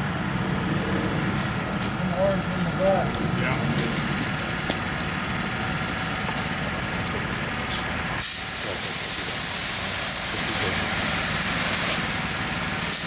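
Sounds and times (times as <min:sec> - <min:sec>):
fire hose water spray hissing: 0:00.1 - 0:13.0.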